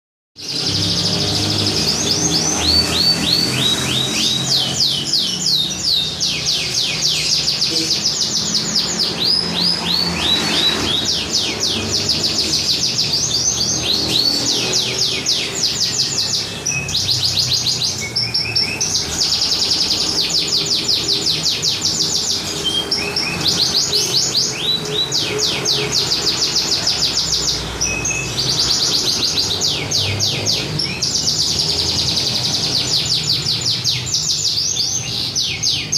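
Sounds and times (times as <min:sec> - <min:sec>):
canary singing fast trills: 0:00.4 - 0:35.9.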